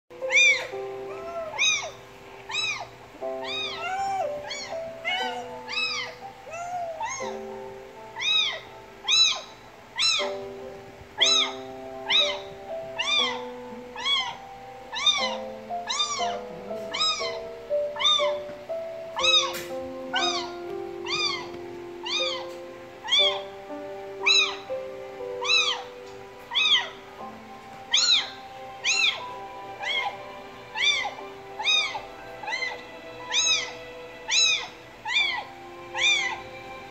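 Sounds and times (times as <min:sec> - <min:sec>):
soft background music: 0:00.1 - 0:36.9
kitten meowing: 0:00.2 - 0:07.4, 0:08.2 - 0:10.4, 0:11.2 - 0:18.5, 0:19.2 - 0:23.5, 0:24.2 - 0:24.7, 0:25.4 - 0:27.0, 0:27.9 - 0:36.6.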